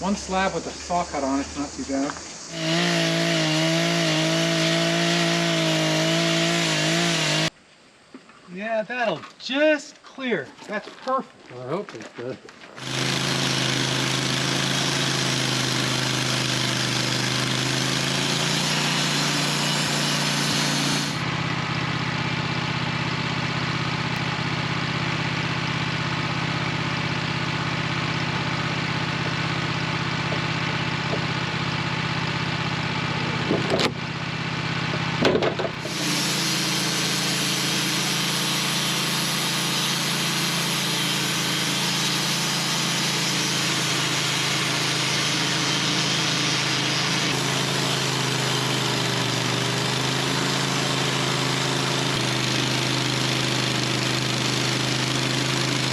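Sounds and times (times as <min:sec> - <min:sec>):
sawmill engine running: 0:00.0 - 0:07.5, 0:12.7 - 0:55.9.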